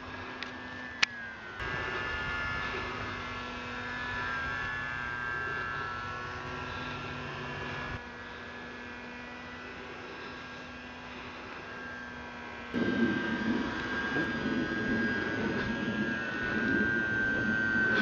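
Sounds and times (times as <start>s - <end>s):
electric motor and propeller whine: 0.0s - 18.0s.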